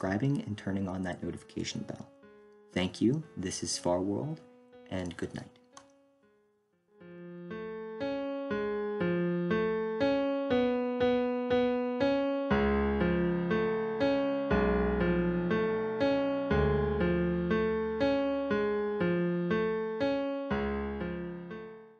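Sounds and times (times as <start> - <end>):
keyboard tune: 0.8 - 21.9.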